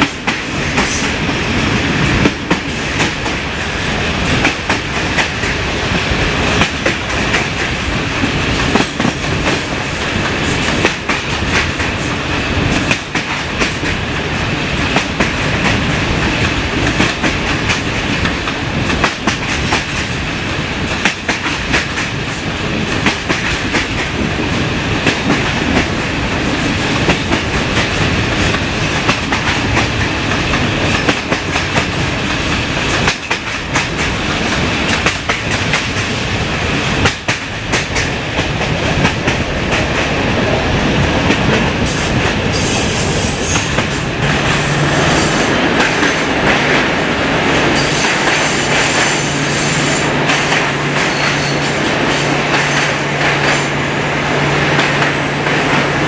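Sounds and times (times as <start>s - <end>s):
train wheels rumbling and rattling: 0.0s - 56.0s.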